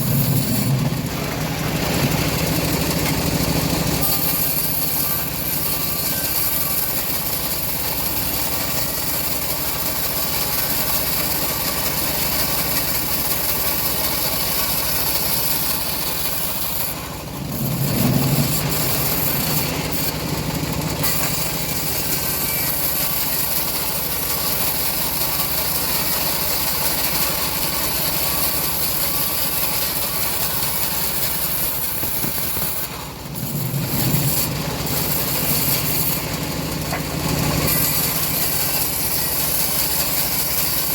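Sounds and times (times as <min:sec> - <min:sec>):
engine-driven bandsaw sawing log: 0:00.0 - 0:40.9.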